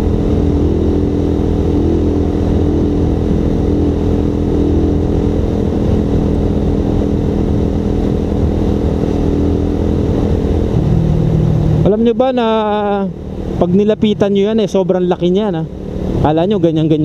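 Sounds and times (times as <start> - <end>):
wind on microphone: 0.0 - 14.4
motorcycle engine cruising: 0.0 - 17.0.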